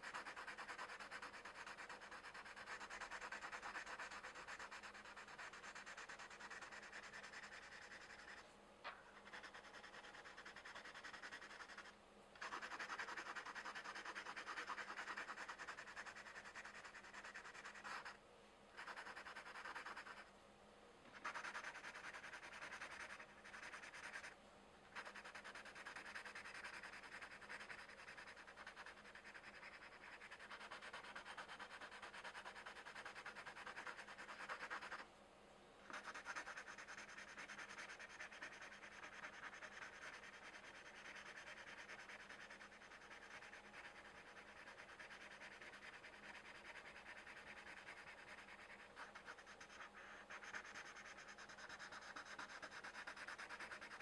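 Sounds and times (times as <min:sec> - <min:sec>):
colored pencil scratching on paper: 0:00.0 - 0:08.4, 0:09.1 - 0:20.3, 0:21.1 - 0:35.0, 0:35.8 - 0:54.0.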